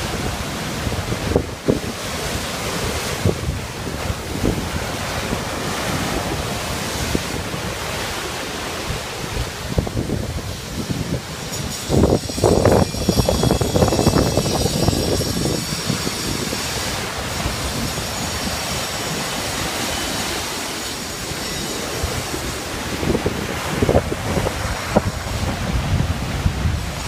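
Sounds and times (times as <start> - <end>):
rough surf breaking on beach: 0.0 - 27.0
wind buffeting microphone: 0.0 - 27.0.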